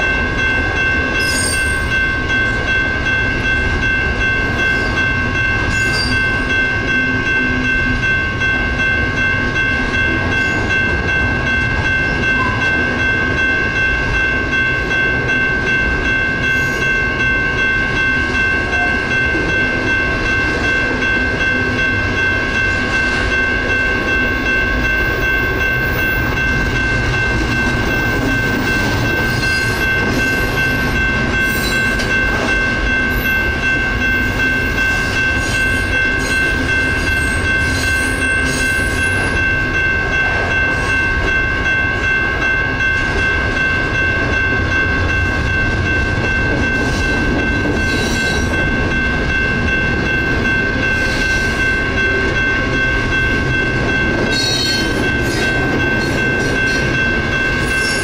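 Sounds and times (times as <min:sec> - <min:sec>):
crossing bells ringing: 0:00.0 - 0:58.0
freight train wheels rumbling: 0:00.0 - 0:58.0.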